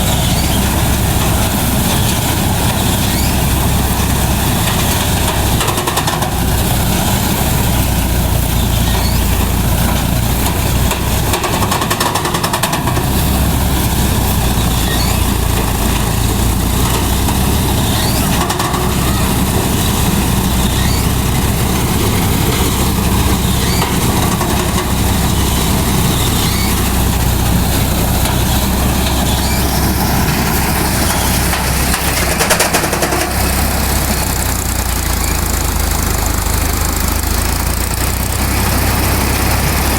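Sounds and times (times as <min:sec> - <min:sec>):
harvester mechanical din: 0:00.0 - 0:39.9
tractor engine drone: 0:00.0 - 0:39.9.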